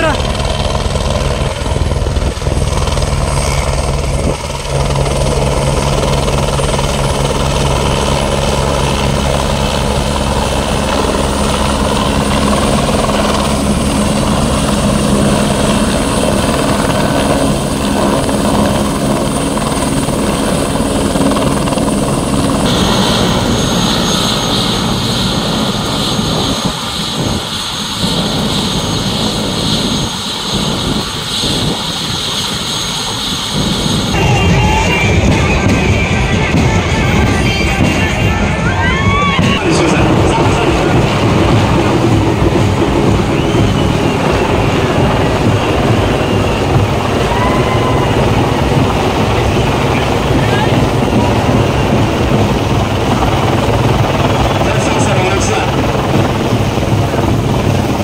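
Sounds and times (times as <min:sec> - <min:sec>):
helicopter high whine: 0:00.0 - 0:58.0
helicopter rotor beating: 0:00.0 - 0:58.0.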